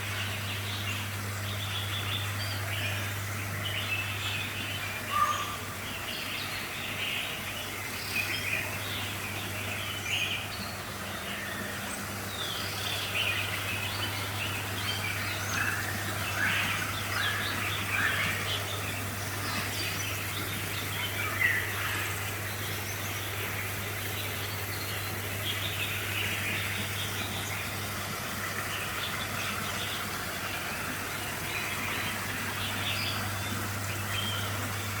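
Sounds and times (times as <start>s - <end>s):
small birds chirping: 0.0s - 35.0s
steady low hum: 0.0s - 35.0s.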